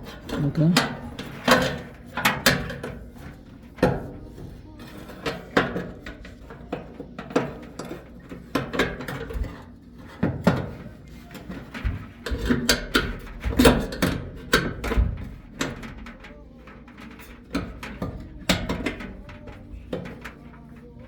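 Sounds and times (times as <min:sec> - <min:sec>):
parts knocking and clattering: 0:00.0 - 0:21.0.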